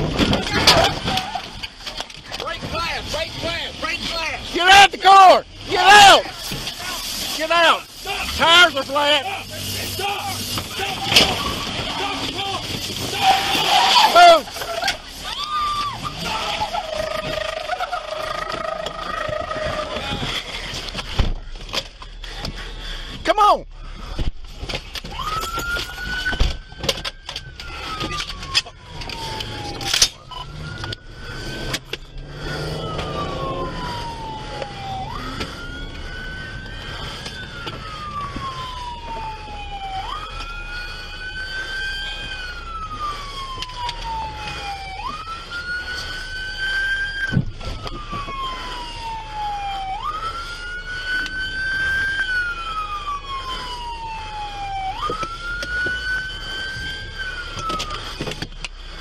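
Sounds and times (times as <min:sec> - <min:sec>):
police siren wailing: 0:00.0 - 0:59.0
fainter higher siren: 0:00.5 - 0:21.1, 0:24.9 - 0:59.0.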